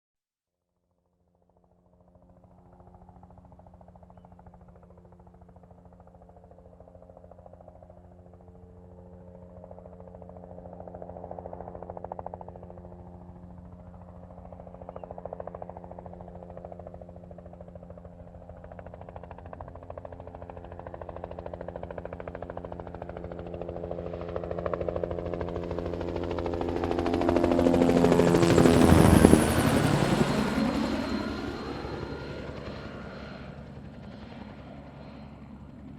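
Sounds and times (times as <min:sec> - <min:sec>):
helicopter rotor and engine: 0:01.0 - 0:35.9.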